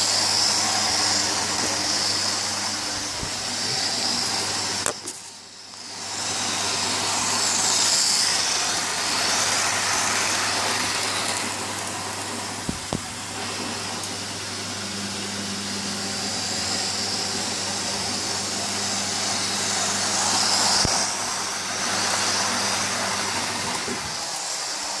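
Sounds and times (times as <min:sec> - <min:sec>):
model train motor whirring: 0:00.0 - 0:13.4, 0:16.1 - 0:25.0.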